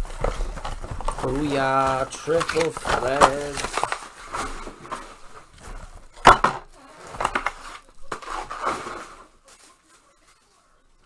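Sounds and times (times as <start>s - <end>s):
cardboard rustling and scraping: 0.0s - 11.0s.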